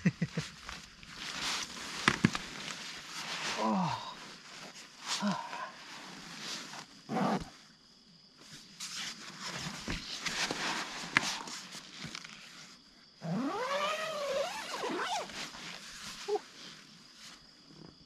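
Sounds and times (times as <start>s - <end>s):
hammock rustling and knocks: 0.4s - 7.6s, 8.4s - 16.4s.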